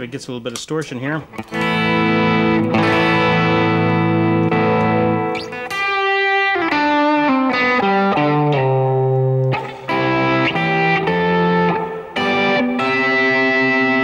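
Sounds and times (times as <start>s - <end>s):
distorted electric guitar chords: 1.3s - 14.0s.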